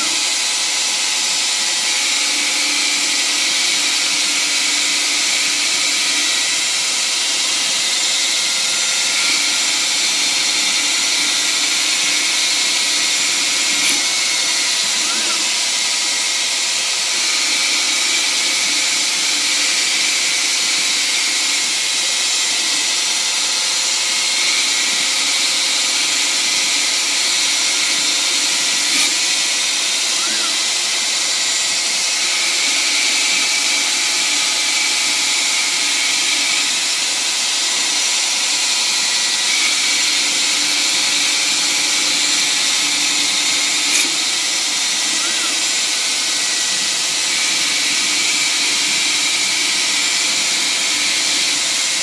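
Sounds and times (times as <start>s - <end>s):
lathe machine whine and hiss: 0.0s - 52.0s.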